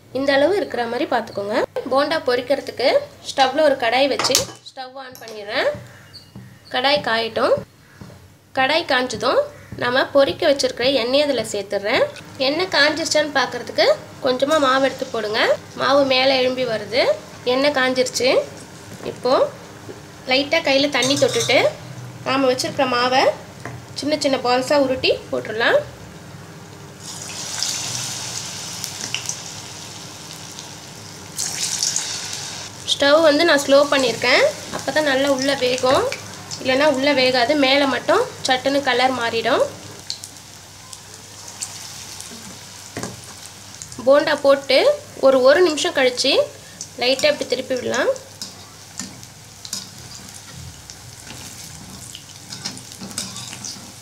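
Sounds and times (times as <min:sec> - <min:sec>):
batter deep-frying in hot oil: 0:00.2 - 0:54.0.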